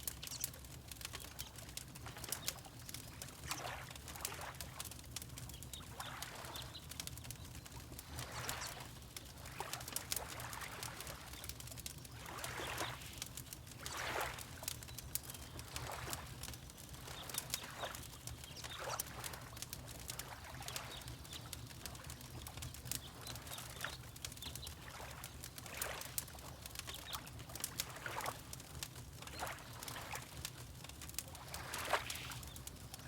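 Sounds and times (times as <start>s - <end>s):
water lapping: 0.0s - 5.2s, 5.8s - 11.5s, 12.1s - 33.0s
wood fire crackling: 0.0s - 33.0s.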